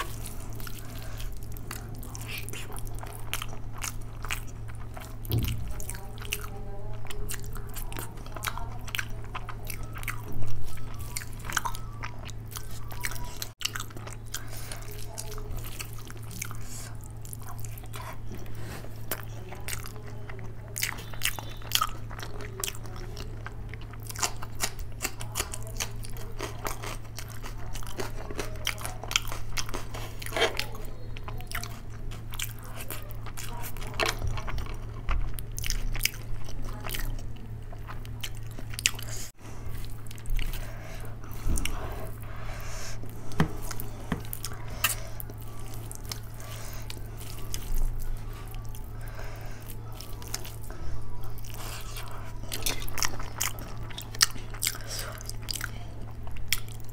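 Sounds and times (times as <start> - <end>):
chewing and mouth smacking: 0.0 - 56.9
steady low hum: 0.0 - 56.9.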